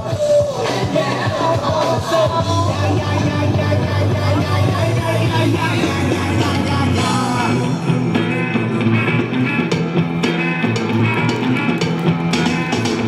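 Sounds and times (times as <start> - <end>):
loud rock song with singing: 0.0 - 13.0.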